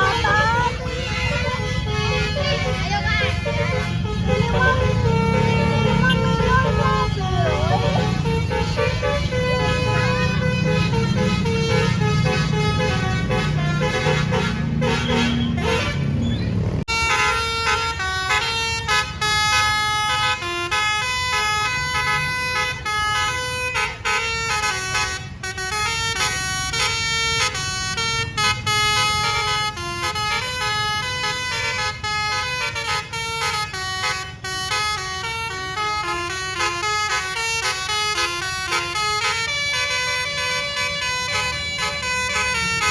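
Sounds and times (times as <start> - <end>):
multi-tone bus air horn melody: 0.0 - 16.2, 16.8 - 42.9.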